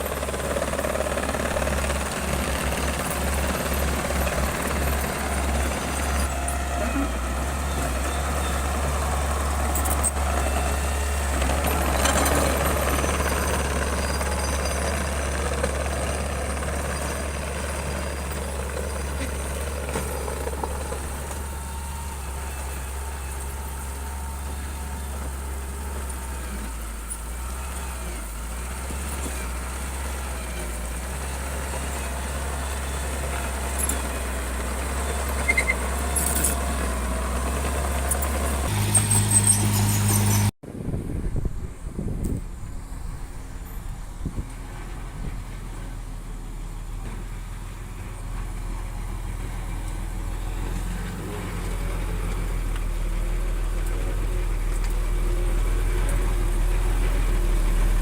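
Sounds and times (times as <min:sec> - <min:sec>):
bulldozer diesel engine drone: 0:00.0 - 0:58.0
rough mechanical noise: 0:00.0 - 0:58.0.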